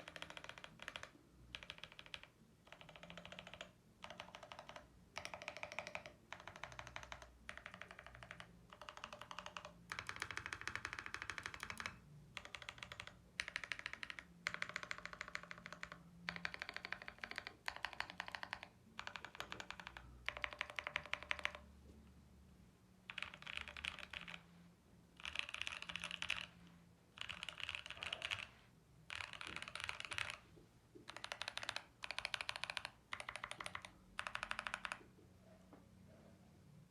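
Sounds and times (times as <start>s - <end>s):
mechanical keyboard typing: 0.0s - 21.7s, 23.1s - 24.5s, 25.2s - 35.1s.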